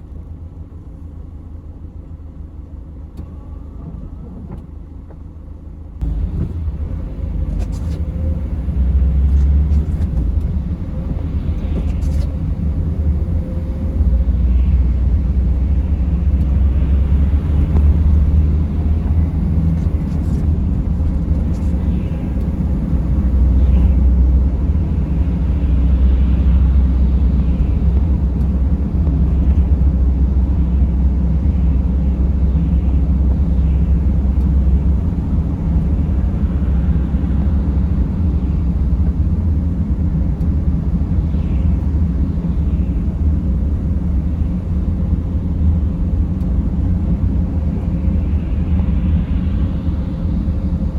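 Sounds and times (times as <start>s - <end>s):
van engine and tyres rumbling: 0.0s - 50.9s.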